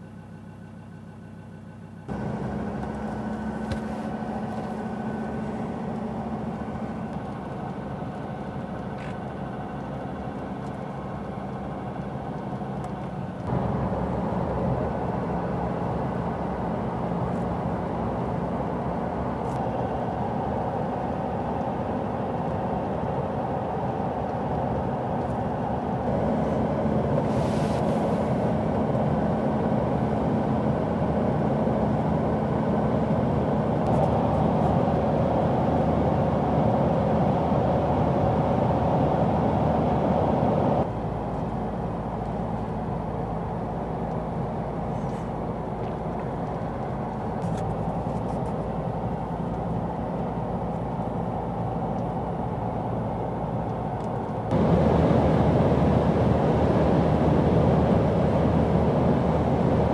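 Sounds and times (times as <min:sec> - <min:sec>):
road noise inside car cabin: 0:00.0 - 0:59.9.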